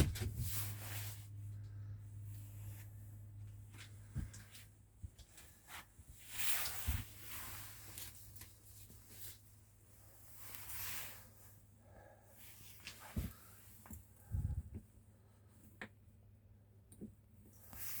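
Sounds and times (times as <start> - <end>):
soft rustling: 0.0 - 14.9.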